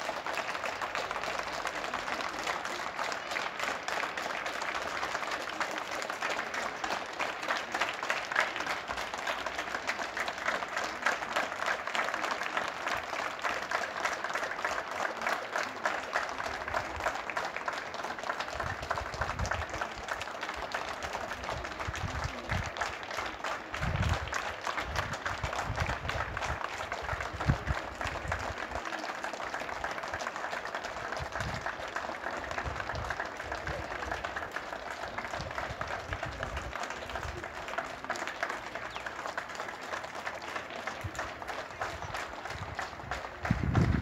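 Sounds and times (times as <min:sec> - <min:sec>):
crowd applauding: 0:00.0 - 0:44.0.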